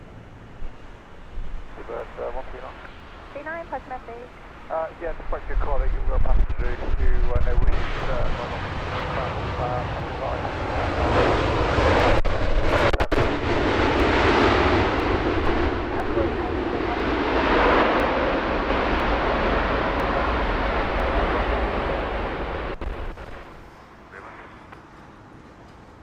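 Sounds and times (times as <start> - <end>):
jet engines roaring: 0.0 - 25.5.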